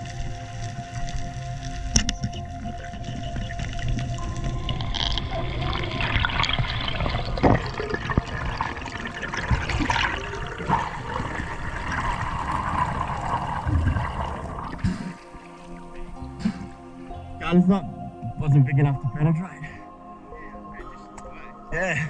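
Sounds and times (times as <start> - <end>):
underwater rushing and bubbling: 0.0 - 19.4.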